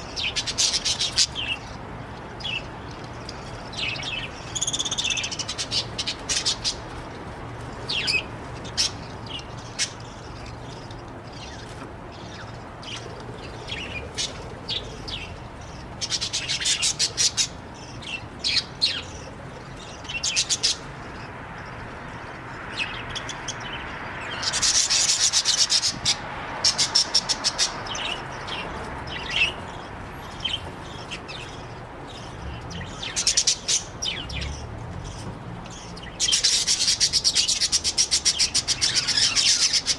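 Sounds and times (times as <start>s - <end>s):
budgies chirping: 0.0s - 39.9s.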